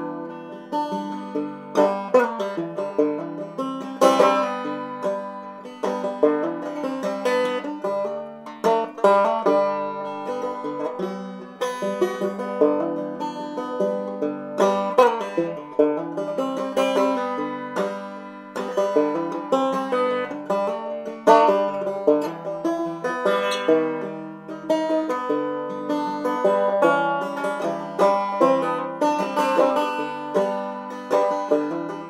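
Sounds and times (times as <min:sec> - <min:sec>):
plucked-string tune: 0:00.0 - 0:32.0.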